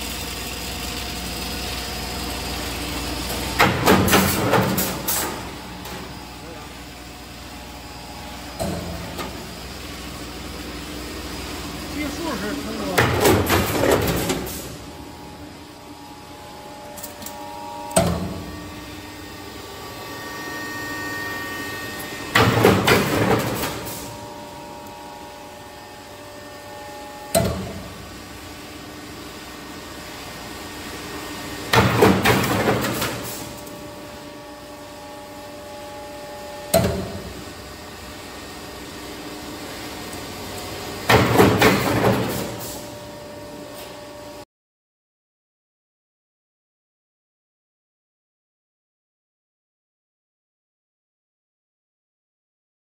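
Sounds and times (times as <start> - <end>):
machine humming: 0.0 - 44.4.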